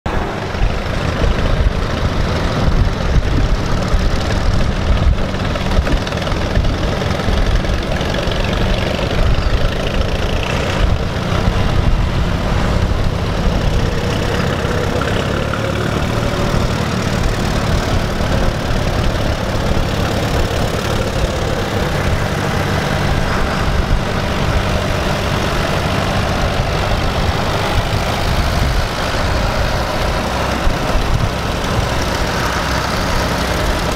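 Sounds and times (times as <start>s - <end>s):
tractor engines driving past: 0.1s - 33.9s.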